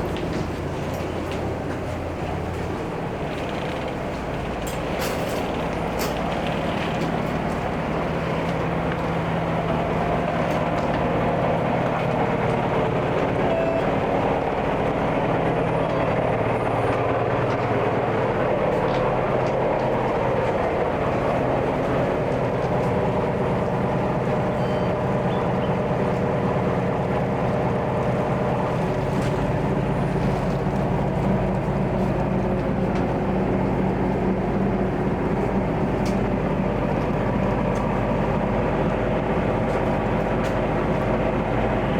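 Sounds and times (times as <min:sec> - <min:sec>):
boat engine droning: 0:00.0 - 0:41.9.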